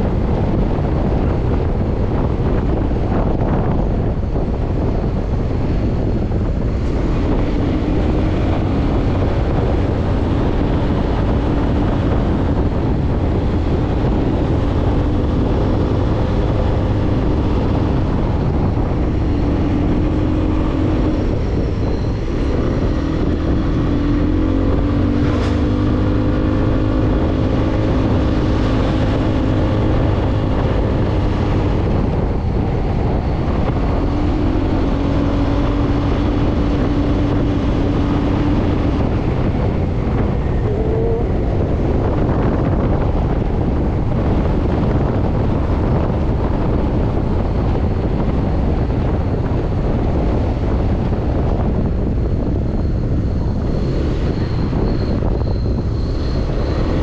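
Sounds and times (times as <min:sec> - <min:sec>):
motorcycle engine running: 0:00.0 - 0:57.0
truck rushing past: 0:00.0 - 0:57.0
wind rushing over microphone: 0:00.0 - 0:57.0.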